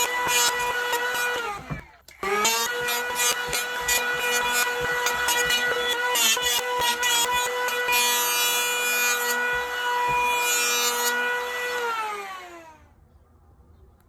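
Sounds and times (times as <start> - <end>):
electric hand planer running: 0.0 - 12.8
motor winding down: 0.0 - 12.9
planer blades shaving wood: 0.0 - 12.9.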